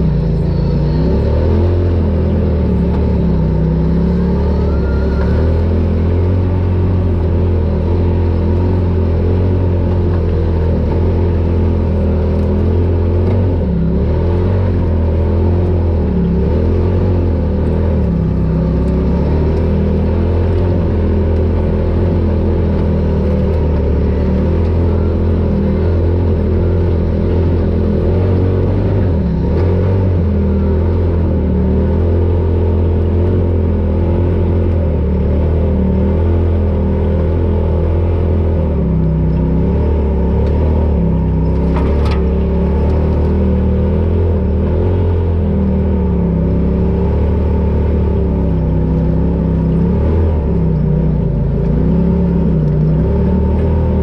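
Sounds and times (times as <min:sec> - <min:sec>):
off-road vehicle engine running: 0:00.0 - 0:54.0.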